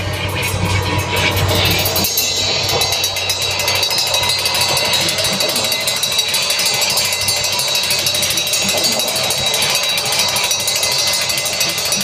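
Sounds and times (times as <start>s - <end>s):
harsh noise music: 0.0s - 12.0s
high whine: 0.0s - 12.0s.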